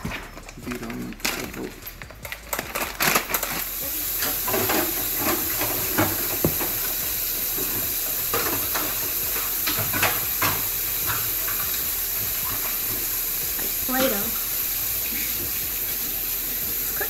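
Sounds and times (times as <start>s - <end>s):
steady hiss: 3.3s - 17.0s.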